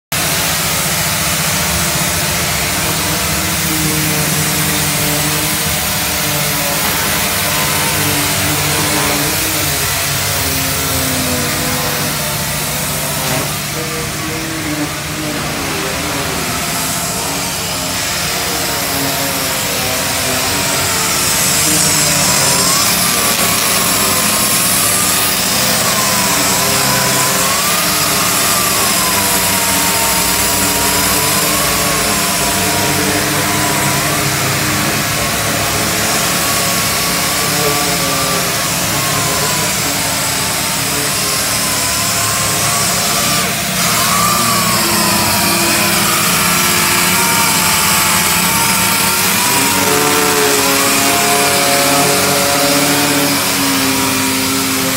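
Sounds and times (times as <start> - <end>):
air sander whining: 0.0 - 54.9.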